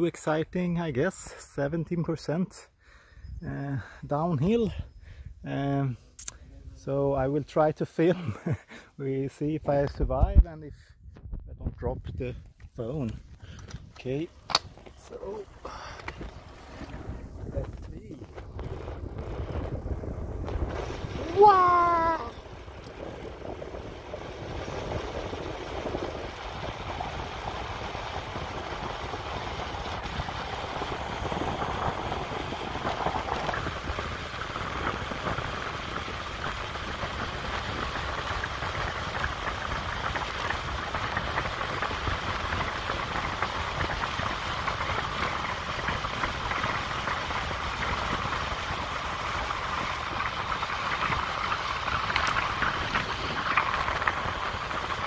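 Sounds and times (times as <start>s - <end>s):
bicycle tyres rolling on asphalt: 6.7s - 10.2s, 11.8s - 55.0s
wind rushing over microphone: 9.6s - 55.0s.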